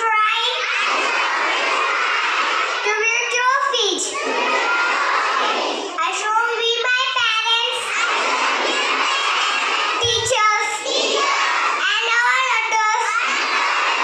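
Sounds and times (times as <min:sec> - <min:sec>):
children chanting in unison: 0:00.0 - 0:14.0.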